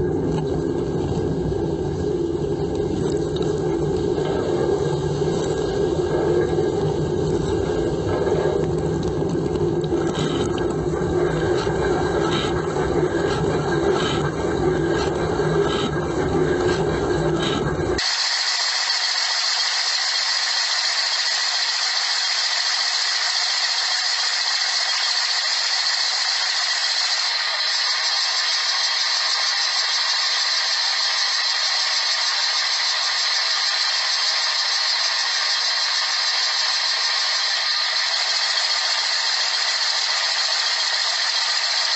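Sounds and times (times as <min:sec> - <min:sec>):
dishwasher pump hum: 0:00.0 - 0:41.9.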